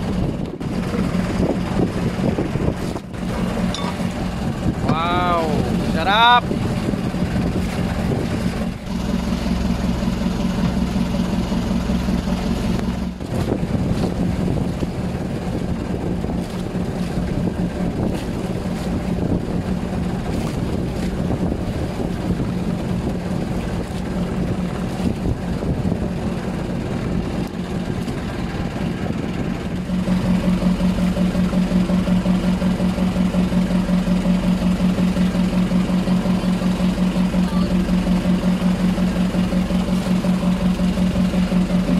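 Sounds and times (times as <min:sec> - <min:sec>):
motorboat engine running: 0:00.0 - 0:41.9.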